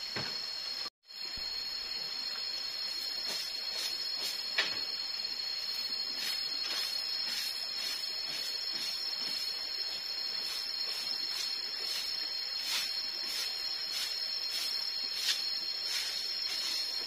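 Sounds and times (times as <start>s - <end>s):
forest insects droning: 0.0s - 17.0s
broom sweeping bamboo floor: 2.3s - 17.0s.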